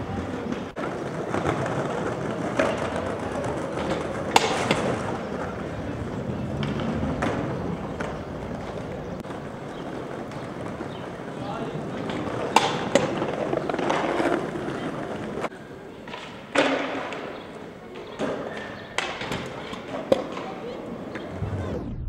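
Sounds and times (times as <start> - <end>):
scooter wheels rolling on stone: 0.0 - 21.4.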